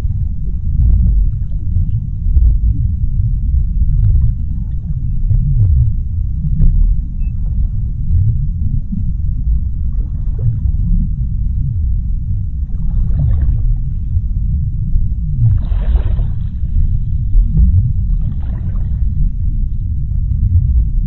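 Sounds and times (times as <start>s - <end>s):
deep underwater rumble: 0.0s - 21.0s
faint bubbling crackles: 0.0s - 21.0s.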